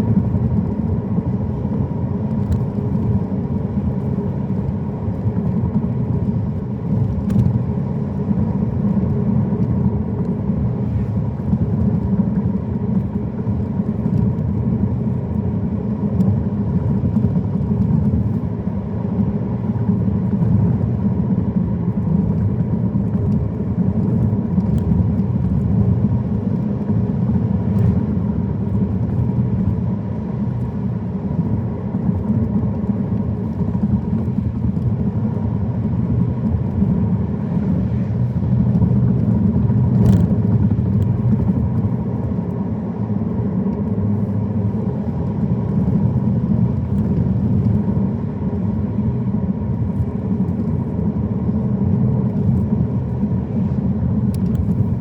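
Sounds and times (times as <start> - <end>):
road and engine noise: 0.0 - 55.0.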